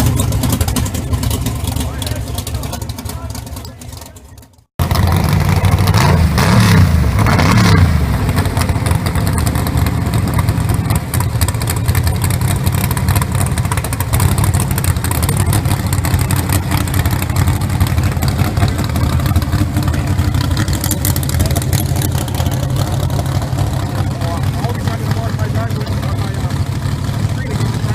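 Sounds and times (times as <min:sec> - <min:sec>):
car engine revving and idling: 0:00.0 - 0:27.9.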